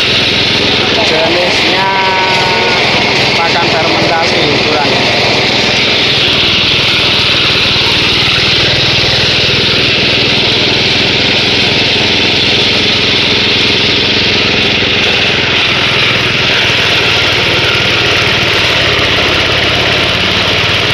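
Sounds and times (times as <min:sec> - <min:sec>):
forage chopper engine hum: 0:00.0 - 0:20.9.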